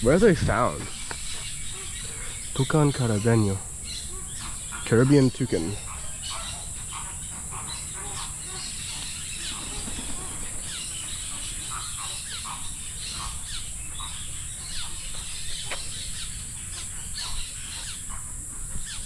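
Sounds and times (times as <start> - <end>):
birds chirping: 0.0 - 19.0
steady high hiss: 0.0 - 19.0.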